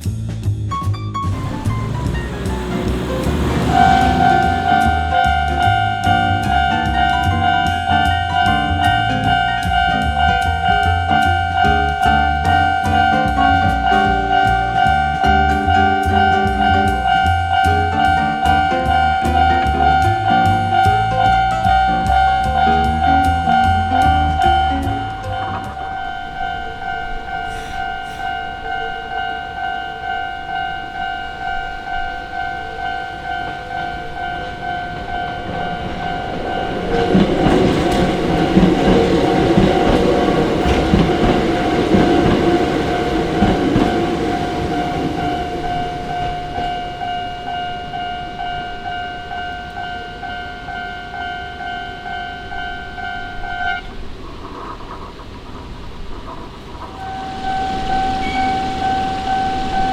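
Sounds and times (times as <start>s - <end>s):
train rumbling over crossing: 1.2s - 59.9s
level crossing alarm bell: 1.3s - 22.4s, 23.5s - 53.8s, 57.0s - 59.9s.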